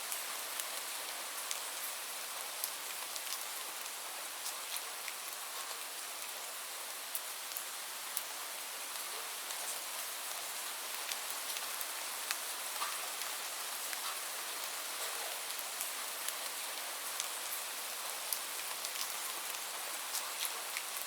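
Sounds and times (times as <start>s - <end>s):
raindrops pattering on a surface: 0.1s - 21.0s.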